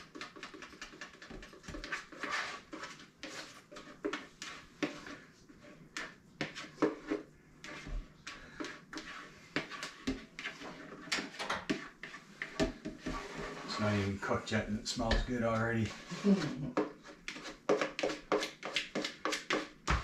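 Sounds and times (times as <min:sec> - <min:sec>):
utensil scraping and knocking containers: 0:00.0 - 0:20.0.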